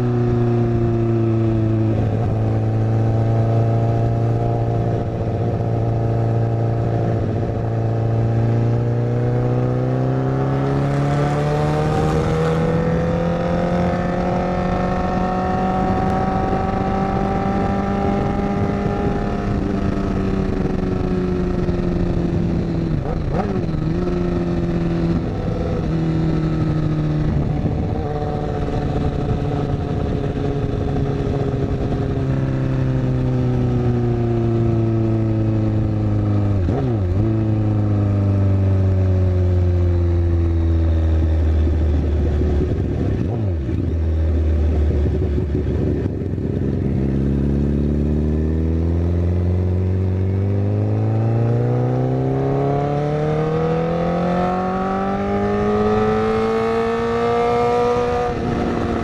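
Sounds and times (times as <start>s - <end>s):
motorcycle engine cruising: 0.0s - 59.0s
wind noise: 0.0s - 59.0s.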